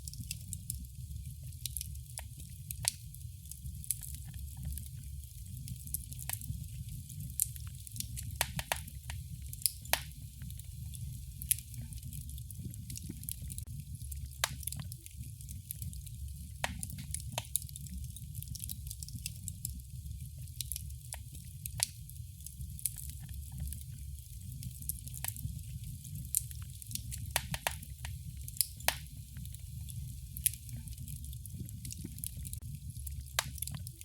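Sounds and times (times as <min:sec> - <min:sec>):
low rumble of flames: 0:00.0 - 0:34.0
wood fire crackling: 0:00.0 - 0:34.0.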